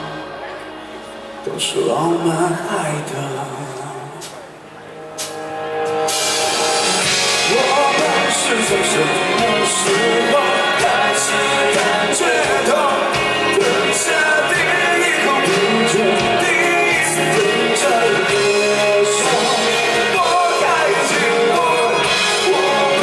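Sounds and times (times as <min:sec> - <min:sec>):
lead singer singing: 0:00.0 - 0:04.6, 0:07.0 - 0:23.0
live rock band: 0:00.0 - 0:23.0.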